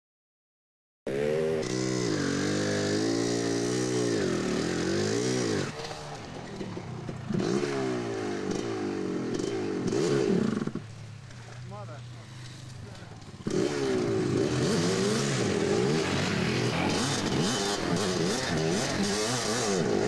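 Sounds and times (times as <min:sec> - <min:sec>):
dirt bike engine revving: 0:01.1 - 0:20.0.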